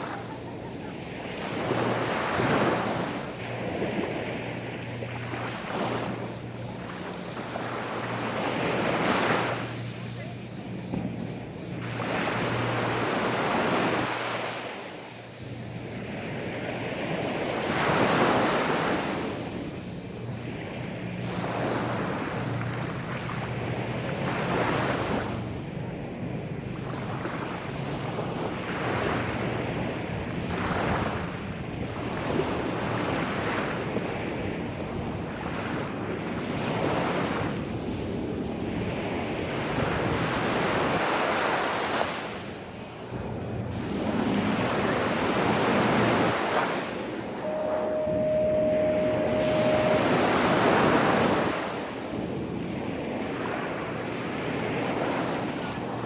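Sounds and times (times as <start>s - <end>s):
small waves washing on sandy beach: 0.0s - 56.0s.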